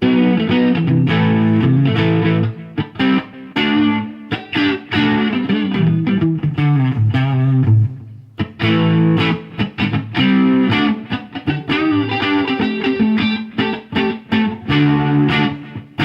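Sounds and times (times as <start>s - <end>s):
electric guitar chords and lines: 0.0s - 16.0s.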